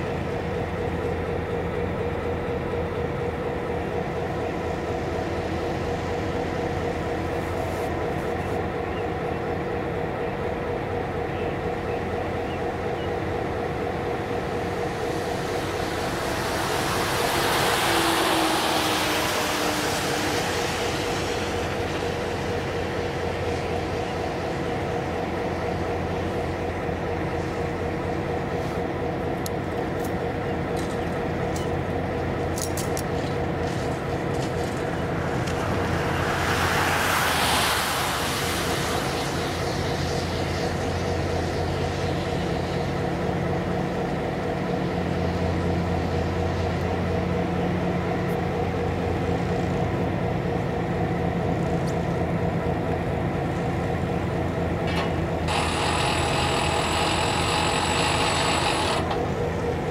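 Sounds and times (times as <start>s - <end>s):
diesel locomotive idling: 0.0s - 59.9s
road vehicle passing: 11.1s - 59.9s.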